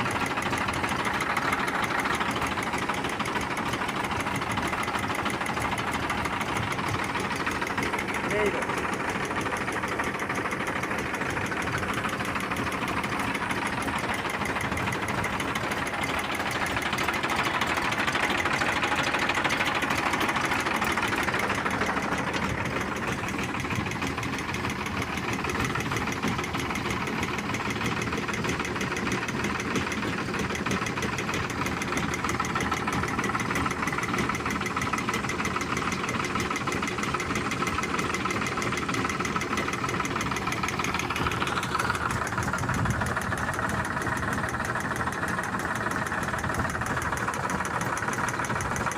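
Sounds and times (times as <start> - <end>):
pump engine running: 0.0 - 48.9.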